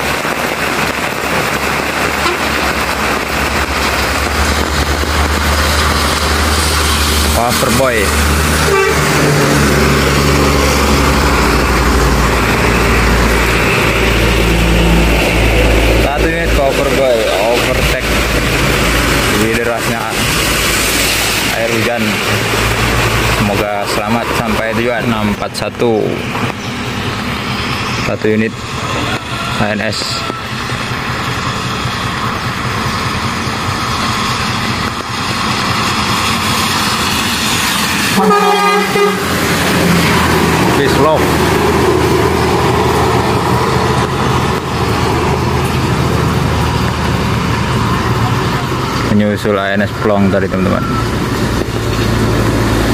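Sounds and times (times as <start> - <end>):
coach engine running low: 0.0 - 52.9
heavy rain: 0.0 - 52.9
tyres hissing through water: 0.0 - 52.9.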